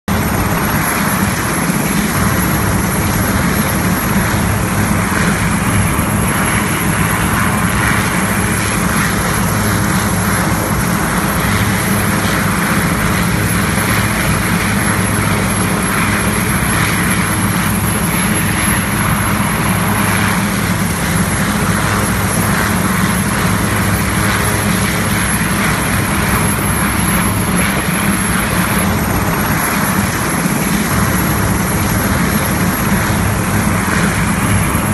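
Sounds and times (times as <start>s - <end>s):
helicopter turbine and rotor din: 0.1s - 34.9s.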